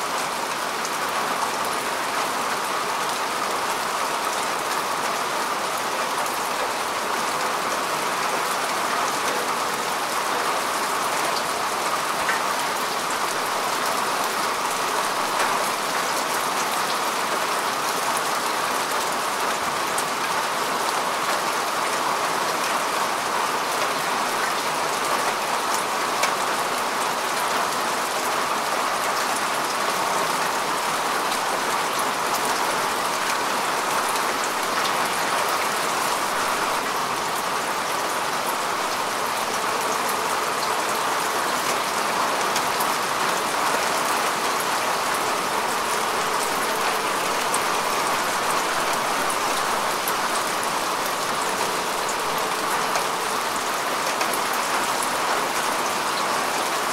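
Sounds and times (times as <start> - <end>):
rain pattering on grass: 0.0 - 56.9.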